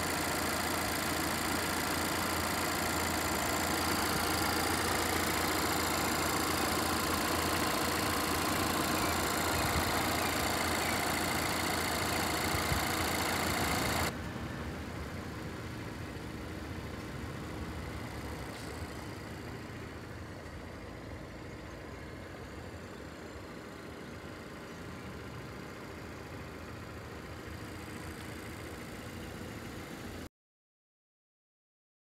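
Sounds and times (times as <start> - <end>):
car engine idling: 0.0 - 30.3.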